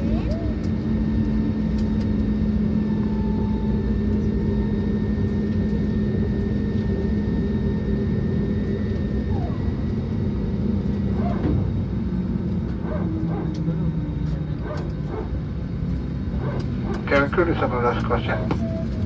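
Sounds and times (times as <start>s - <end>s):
low humming tone: 0.0s - 19.0s.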